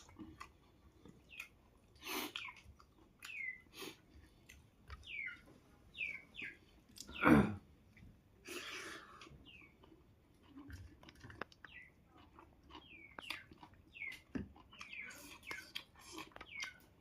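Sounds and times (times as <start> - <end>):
chewing and mouth clicks: 0.0 - 5.4, 8.6 - 17.0
bird chirping: 1.0 - 7.4, 8.5 - 17.0.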